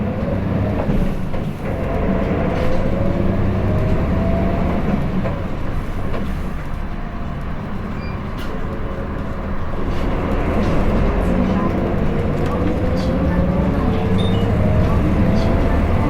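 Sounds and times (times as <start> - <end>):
bus diesel engine accelerating: 0.0 - 16.0.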